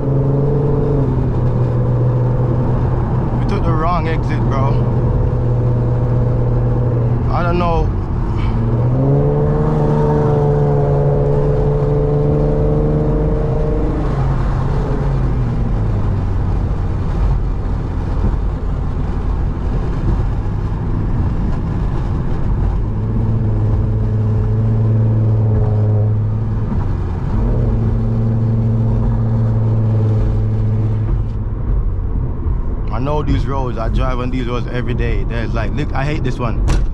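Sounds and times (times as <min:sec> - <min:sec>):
car engine running: 0:00.0 - 0:36.9
road noise: 0:00.0 - 0:36.9.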